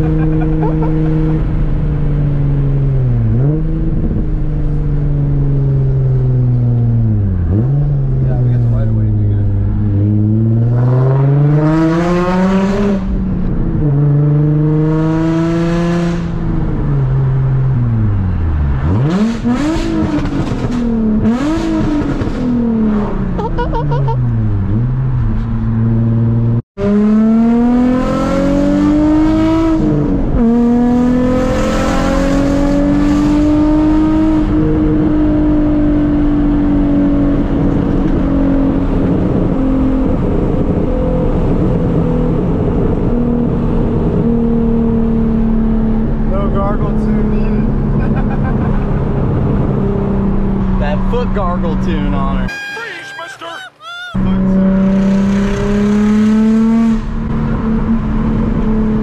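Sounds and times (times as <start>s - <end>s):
car engine revving: 0.0s - 52.5s, 54.2s - 59.0s.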